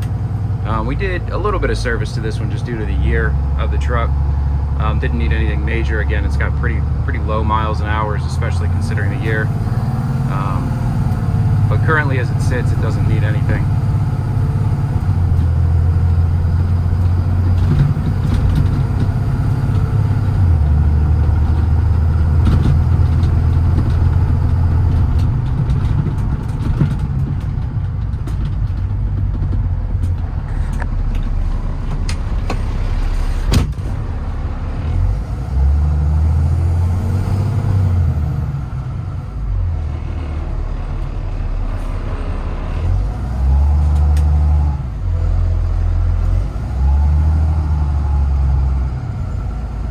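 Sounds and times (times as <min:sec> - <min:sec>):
diesel truck engine droning: 0:00.0 - 0:49.9.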